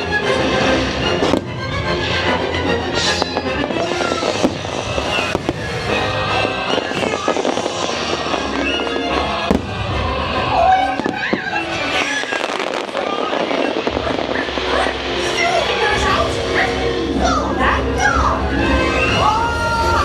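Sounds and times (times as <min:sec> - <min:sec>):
loud soundtrack music: 0:00.0 - 0:11.0, 0:13.9 - 0:20.0
fireworks bursting: 0:00.0 - 0:17.3.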